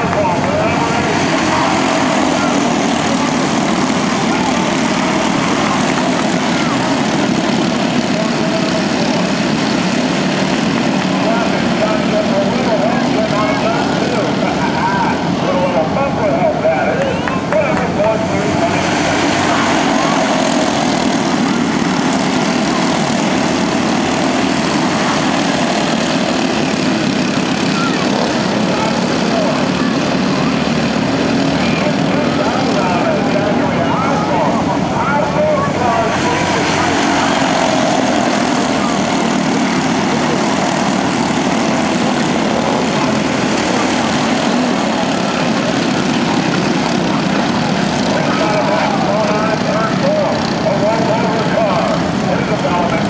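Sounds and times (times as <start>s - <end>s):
kart engines droning: 0.0s - 53.0s.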